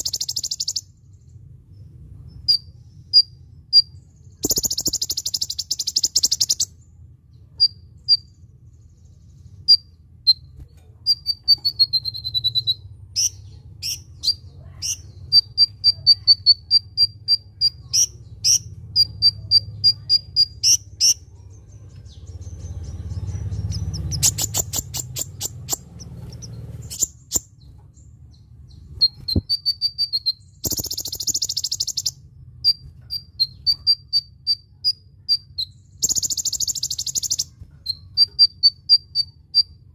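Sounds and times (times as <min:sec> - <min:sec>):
small bird chirping song: 0:00.0 - 0:39.9.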